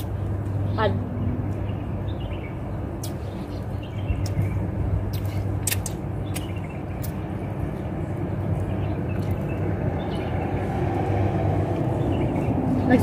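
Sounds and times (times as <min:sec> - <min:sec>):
low machinery rumble: 0:00.0 - 0:13.0.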